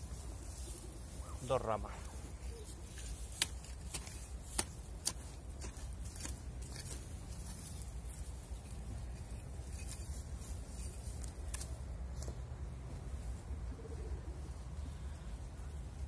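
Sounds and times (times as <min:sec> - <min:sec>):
soil being handled: 0:00.0 - 0:13.5
branches rustling: 0:00.0 - 0:16.0.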